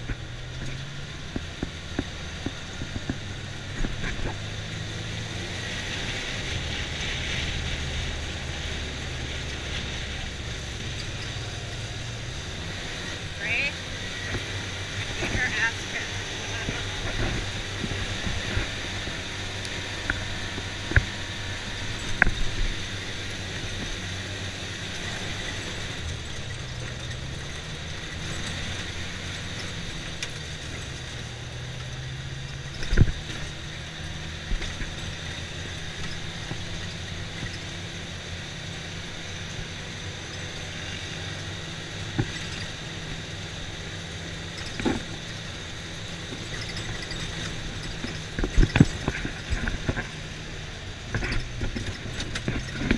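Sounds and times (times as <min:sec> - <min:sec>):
utility vehicle engine running: 0:00.0 - 0:52.9.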